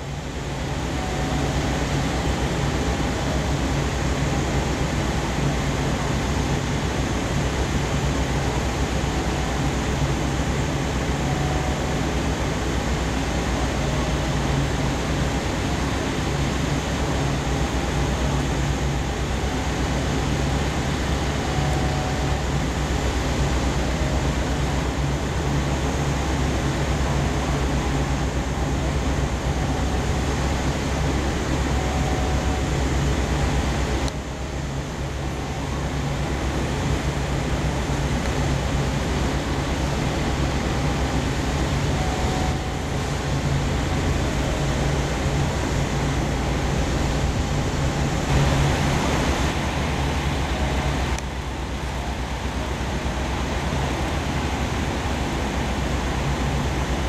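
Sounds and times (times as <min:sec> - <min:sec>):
electric train equipment humming: 0:00.0 - 0:57.0.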